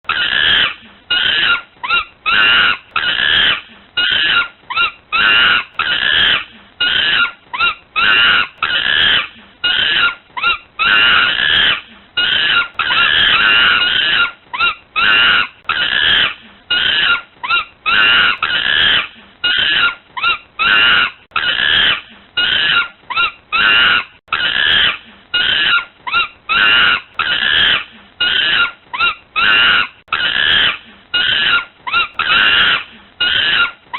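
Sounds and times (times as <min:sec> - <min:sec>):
monkey screaming: 0:00.0 - 0:33.9.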